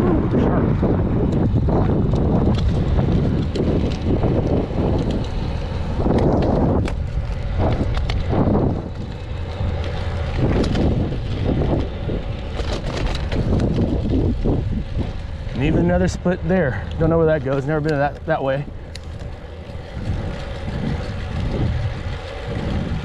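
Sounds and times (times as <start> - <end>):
tyre noise on asphalt: 0.0 - 23.0
wind buffeting microphone: 0.0 - 23.0.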